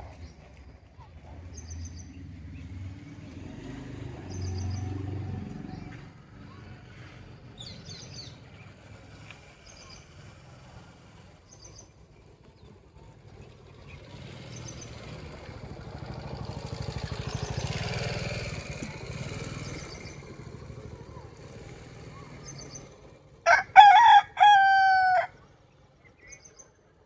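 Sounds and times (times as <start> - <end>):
vehicle engine passing: 0.0 - 11.8, 13.2 - 26.3.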